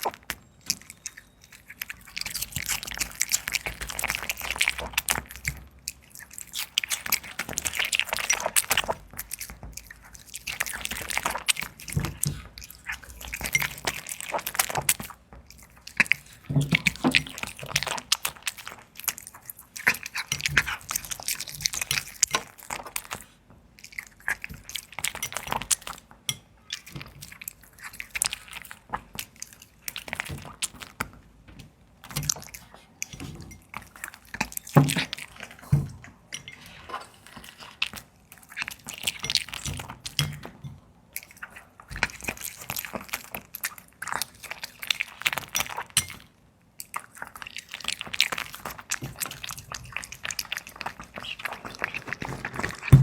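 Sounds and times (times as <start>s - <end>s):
puppy chewing food: 0.0s - 53.0s.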